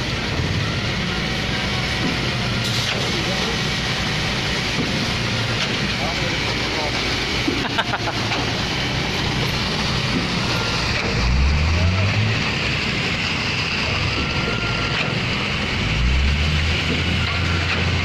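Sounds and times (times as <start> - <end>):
machinery engine droning: 0.0 - 18.0.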